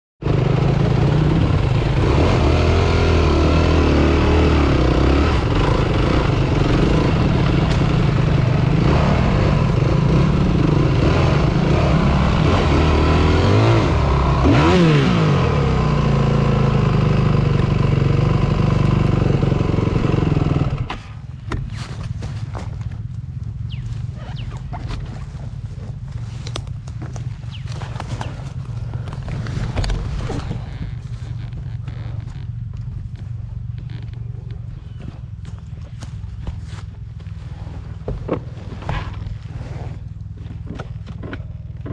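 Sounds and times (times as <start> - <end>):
dirt bike engine revving: 0.2 - 41.9.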